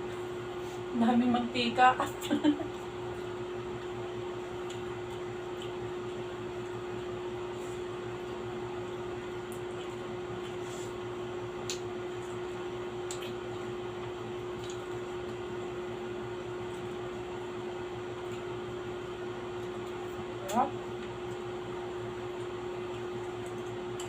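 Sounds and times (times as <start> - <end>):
steady machine hum: 0.0 - 24.0.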